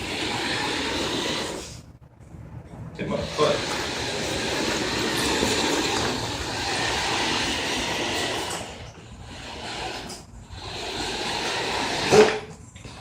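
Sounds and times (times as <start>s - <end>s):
radio-controlled car motor rushing: 0.0s - 1.8s, 3.2s - 12.5s.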